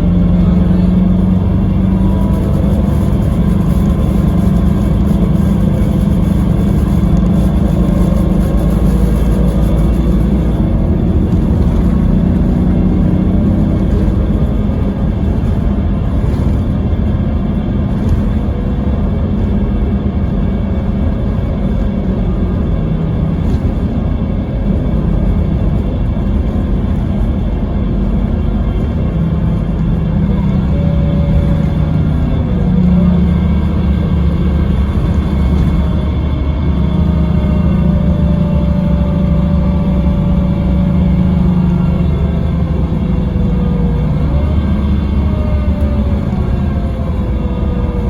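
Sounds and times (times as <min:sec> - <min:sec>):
diesel engine drone: 0:00.0 - 0:48.0
road rumble: 0:00.0 - 0:48.0.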